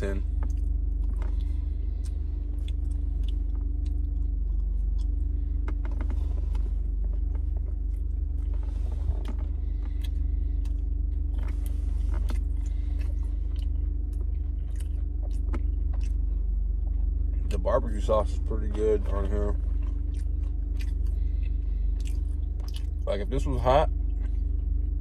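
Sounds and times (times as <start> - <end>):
low car cabin hum: 0.0 - 25.0
person chewing: 0.1 - 23.1, 23.9 - 25.0.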